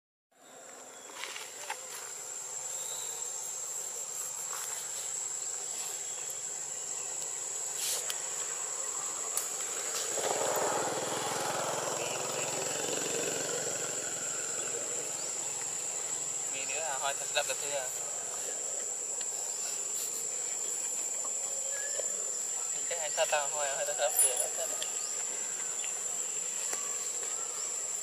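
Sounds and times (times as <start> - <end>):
high-pitched insect drone: 0.7 - 28.0.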